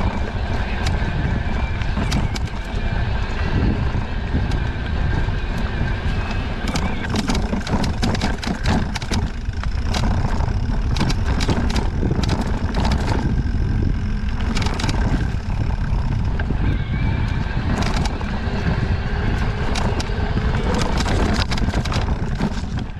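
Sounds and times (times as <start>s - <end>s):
suspension fork creaking and cracking: 0.0s - 22.9s
wind and tyres rumbling: 0.0s - 22.9s.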